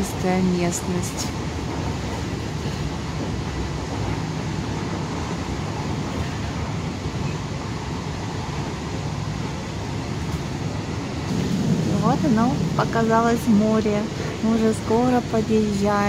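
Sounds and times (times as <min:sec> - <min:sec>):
moving train rumble: 0:00.0 - 0:16.0.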